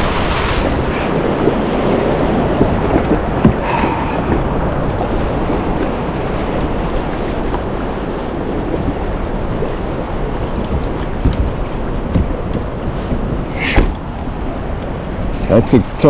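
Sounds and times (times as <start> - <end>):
low bumps: 0.0 - 16.0
turbulent river water rushing: 0.0 - 16.0
wind buffeting microphone: 0.0 - 16.0.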